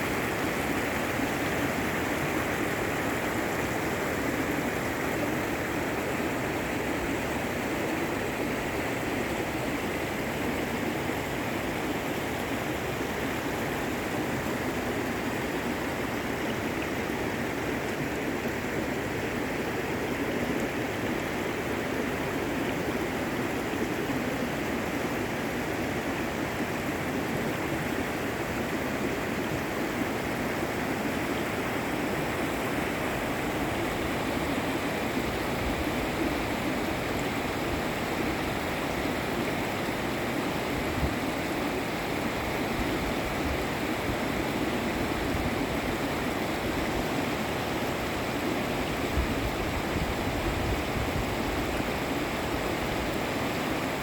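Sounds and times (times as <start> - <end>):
fast-flowing river water: 0.0 - 54.0.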